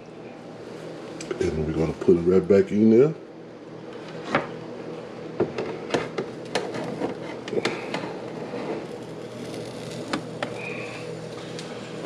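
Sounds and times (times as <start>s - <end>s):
air fryer humming: 0.0s - 12.0s.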